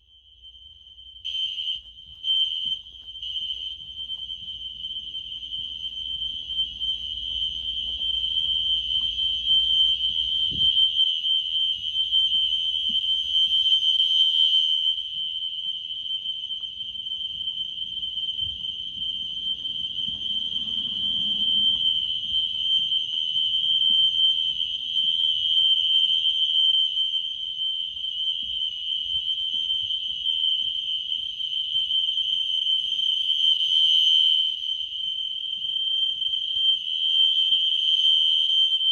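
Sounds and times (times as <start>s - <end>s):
fire alarm horn steady tone: 0.0s - 38.9s.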